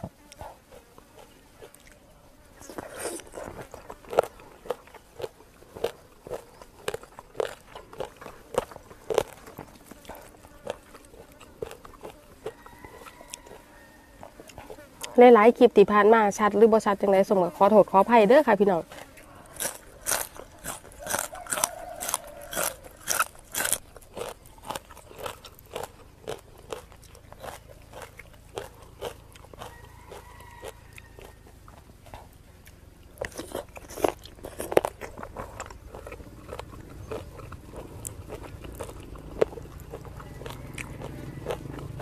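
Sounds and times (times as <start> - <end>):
crunchy chewing: 0.0 - 15.2, 18.3 - 42.0.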